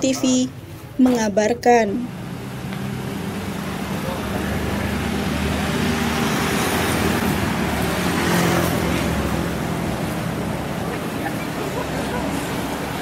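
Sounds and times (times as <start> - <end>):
road traffic noise: 0.0 - 13.0
car driving past: 2.1 - 13.0.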